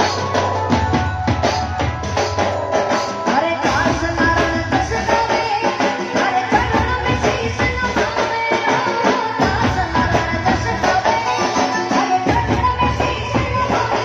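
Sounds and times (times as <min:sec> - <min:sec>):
devotional folk music: 0:00.0 - 0:14.0
jingling hand percussion: 0:00.0 - 0:14.0.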